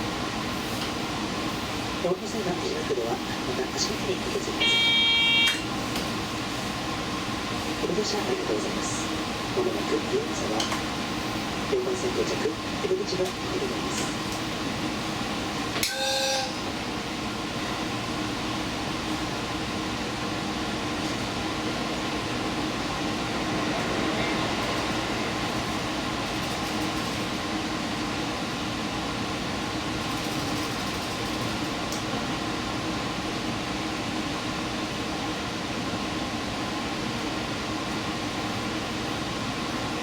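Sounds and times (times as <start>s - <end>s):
train interior hum and rumble: 0.0s - 40.0s
fan-like whir: 0.1s - 40.0s.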